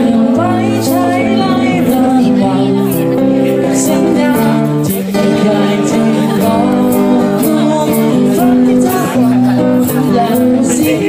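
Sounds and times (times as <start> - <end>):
guitar playing: 0.0 - 11.0
person singing: 0.0 - 11.0.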